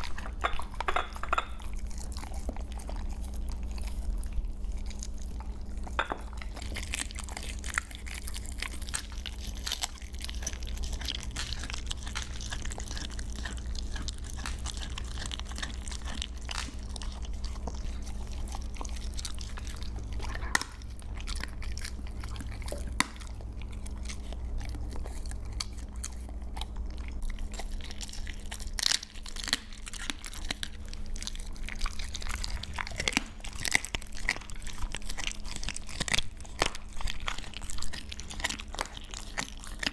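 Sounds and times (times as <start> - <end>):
dog chewing raw meat: 0.0 - 39.9
low steady hum: 0.0 - 39.9.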